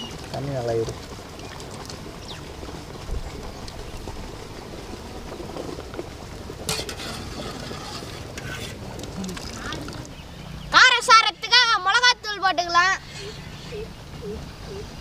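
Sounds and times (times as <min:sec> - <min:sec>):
steady background hiss: 0:02.0 - 0:15.0.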